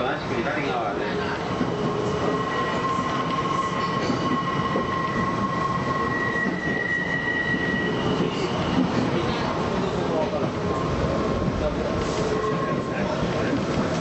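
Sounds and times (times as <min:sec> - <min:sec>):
electric train running on track: 0:00.0 - 0:14.0.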